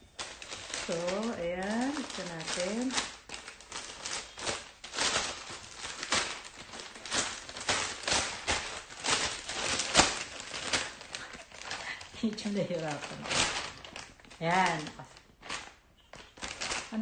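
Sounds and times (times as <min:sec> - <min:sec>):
package wrapping tearing and rustling: 0:00.0 - 0:17.0
wrapping snapping: 0:00.0 - 0:17.0.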